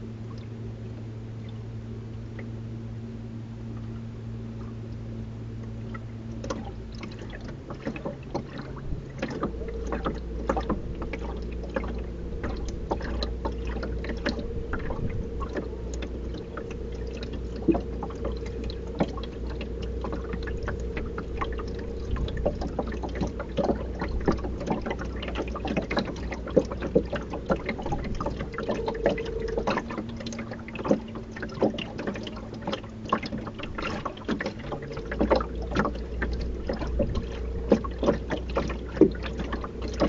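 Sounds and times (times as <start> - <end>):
steady low hum: 0.0 - 40.0
water lapping against boat: 0.0 - 40.0.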